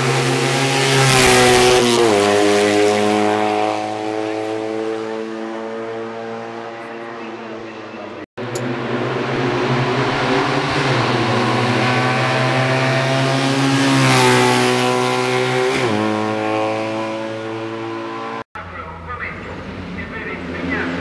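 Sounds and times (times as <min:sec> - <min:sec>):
race car engines at high revs: 0:00.0 - 0:21.0.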